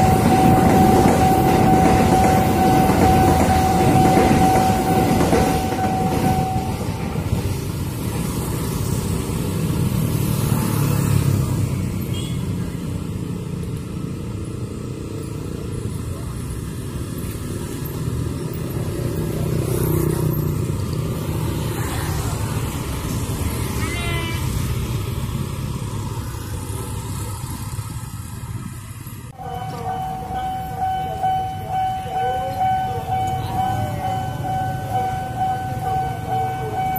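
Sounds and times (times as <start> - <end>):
small engines idling and pulling away: 0.0 - 36.9.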